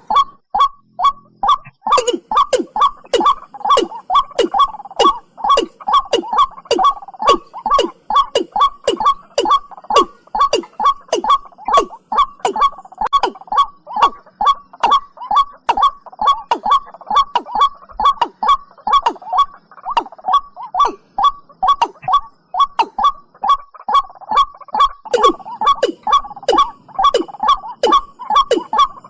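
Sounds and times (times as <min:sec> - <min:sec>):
bird calling in fast series: 0:00.0 - 0:29.0.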